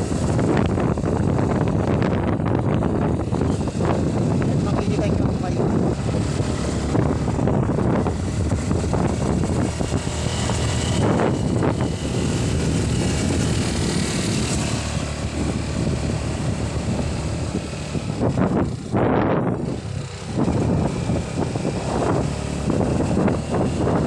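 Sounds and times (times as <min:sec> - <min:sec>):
vehicle running on the move: 0:00.0 - 0:24.0
wind rumbling on microphone: 0:00.0 - 0:24.0.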